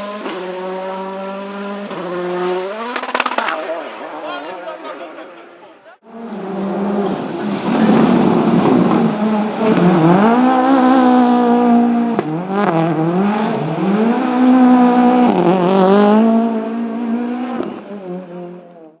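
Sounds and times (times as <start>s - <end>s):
rally car engine revving: 0.0s - 4.2s, 6.1s - 19.0s.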